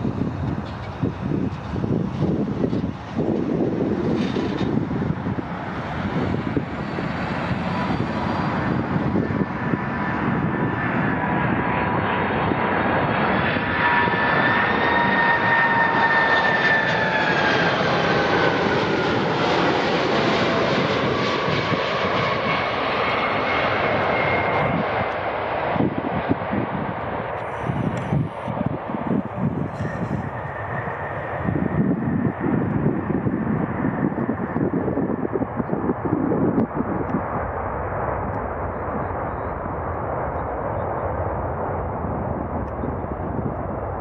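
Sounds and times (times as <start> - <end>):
jet airliner passing: 0.0 - 44.0.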